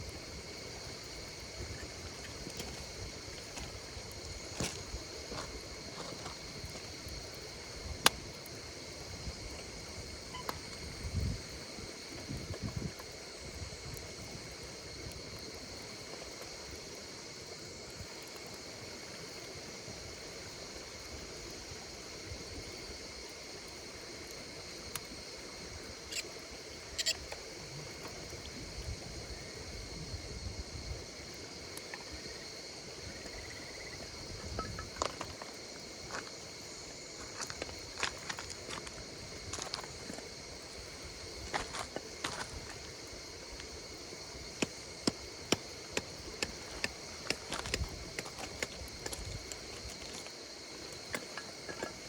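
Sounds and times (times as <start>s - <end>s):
campfire crackling and popping: 0.0s - 29.9s, 30.8s - 33.4s, 34.0s - 52.0s
insects trilling: 0.0s - 52.0s.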